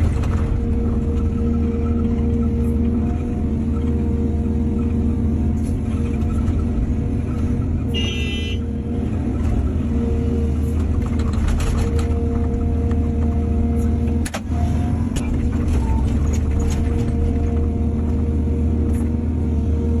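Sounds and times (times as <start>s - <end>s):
diesel engine rumble: 0.0s - 20.0s.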